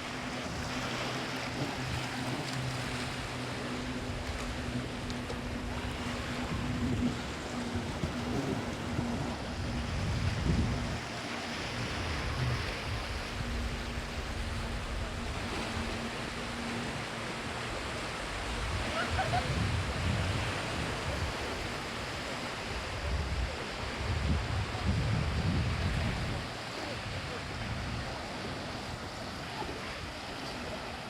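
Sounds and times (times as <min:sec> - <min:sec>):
wind gusting on microphone: 0:00.0 - 0:30.3
surf washing onto beach: 0:00.0 - 0:31.0.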